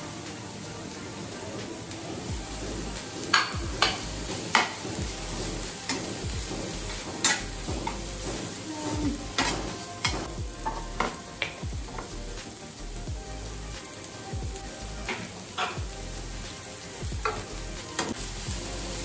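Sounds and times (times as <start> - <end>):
food sizzling in frying pan: 0.0 - 19.0.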